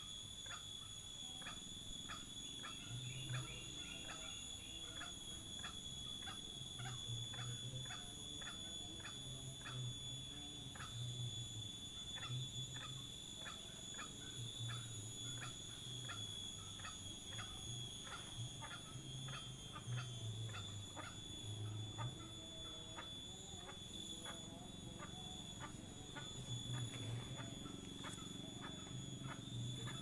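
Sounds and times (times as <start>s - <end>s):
high-pitched insect drone: 0.0s - 30.0s
short insect chirps: 0.0s - 30.0s.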